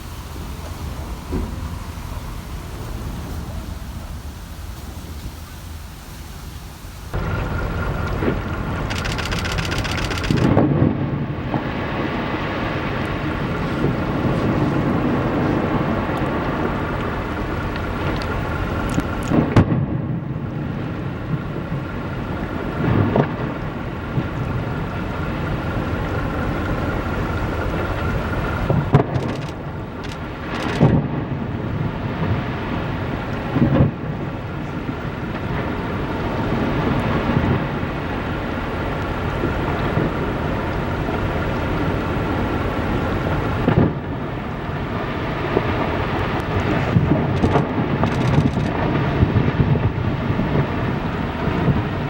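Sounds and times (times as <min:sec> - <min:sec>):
storm wind rushing: 0:07.0 - 0:52.0.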